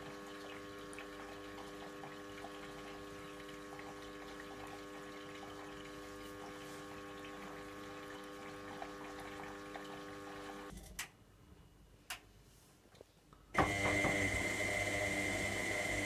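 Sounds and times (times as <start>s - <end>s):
washing machine hum: 0.0s - 10.7s, 13.6s - 16.0s.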